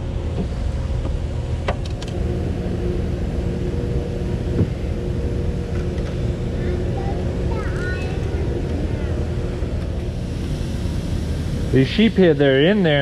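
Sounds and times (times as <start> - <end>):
constant hum: 0.0 - 13.0
low engine rumble: 0.0 - 13.0.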